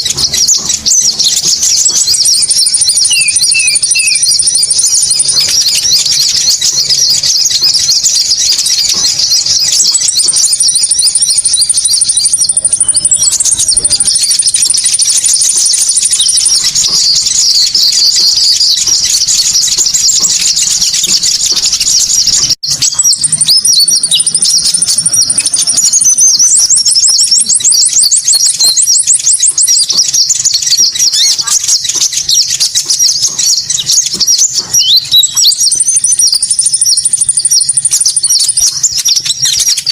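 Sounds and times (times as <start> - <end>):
high buzzing bird trill: 0.0 - 39.9
rapid high bird chirps: 0.0 - 39.9.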